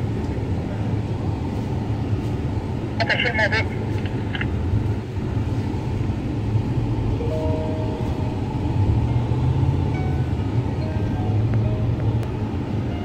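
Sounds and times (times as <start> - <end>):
vehicle engine and tyre rumble: 0.0 - 13.0.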